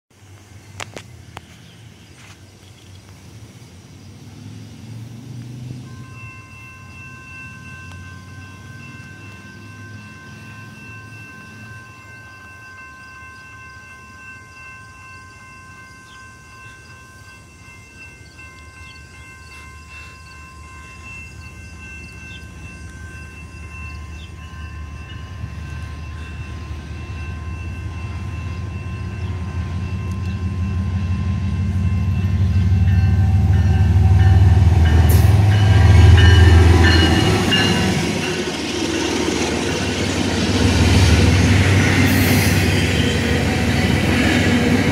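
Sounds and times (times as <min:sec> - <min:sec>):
locomotive engine rumble: 0:00.2 - 0:44.9
train wheels rattling on rails: 0:05.2 - 0:44.9
high ringing tones: 0:05.8 - 0:44.9.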